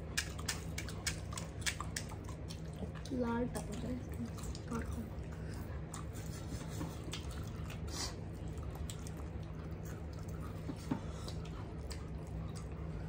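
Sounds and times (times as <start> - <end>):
low room hum: 0.0 - 13.0
wet squishing: 0.0 - 13.0.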